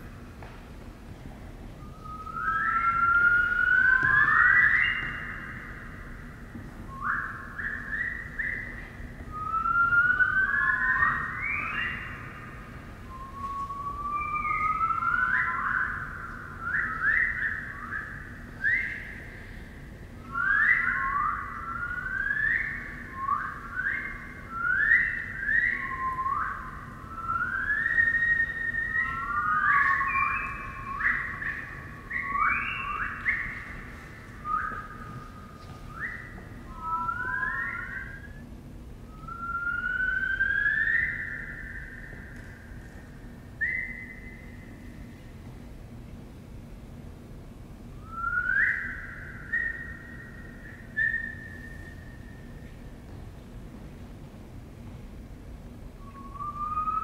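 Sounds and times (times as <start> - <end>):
high whistling tones: 1.7 - 45.3, 48.0 - 53.2, 55.7 - 57.0.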